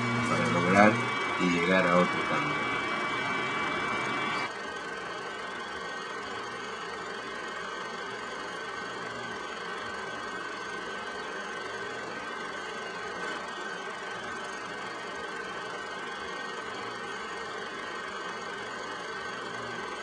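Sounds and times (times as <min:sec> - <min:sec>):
droning hum and hiss: 0:00.0 - 0:20.0
faint high whine: 0:00.0 - 0:20.0.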